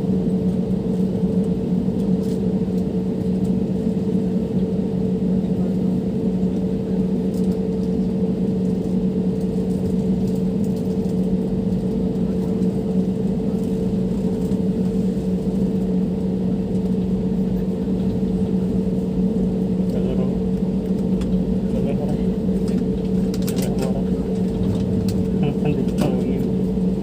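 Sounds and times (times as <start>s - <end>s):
jet airliner cabin drone: 0.0s - 27.0s.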